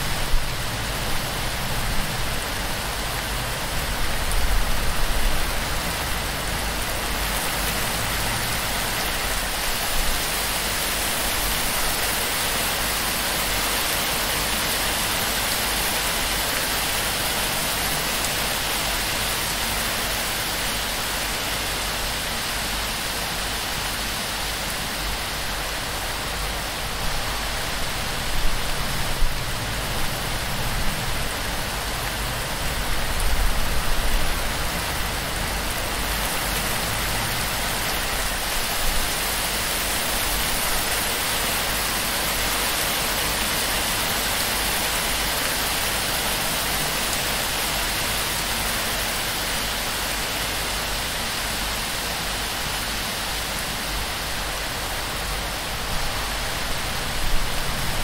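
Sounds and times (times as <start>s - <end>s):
heavy rain on thatch roof: 0.0s - 58.0s.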